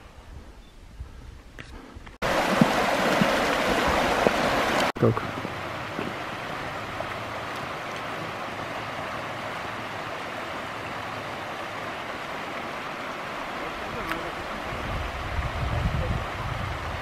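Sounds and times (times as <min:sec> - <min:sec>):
stream flowing over rocks: 0:02.2 - 0:17.0.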